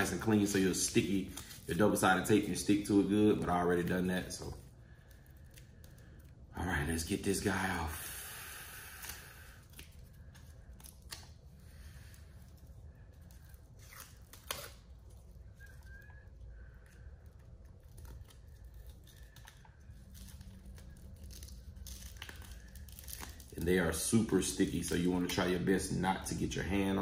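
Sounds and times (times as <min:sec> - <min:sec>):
adhesive backing peeling and crinkling: 0:00.0 - 0:07.9, 0:08.9 - 0:27.0.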